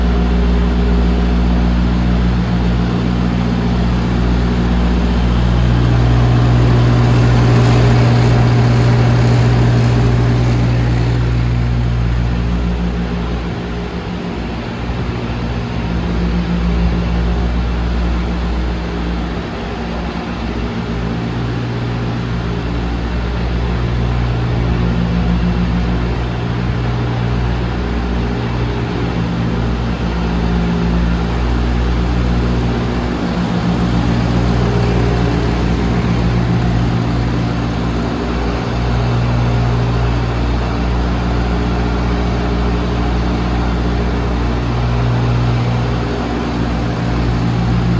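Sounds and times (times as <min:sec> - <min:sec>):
lorry diesel engine idling: 0:00.0 - 0:47.9.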